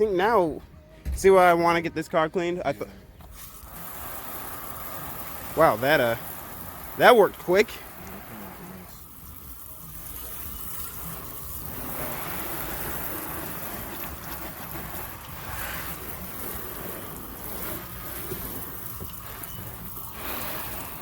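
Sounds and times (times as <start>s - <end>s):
water spraying onto car body: 3.2s - 21.0s.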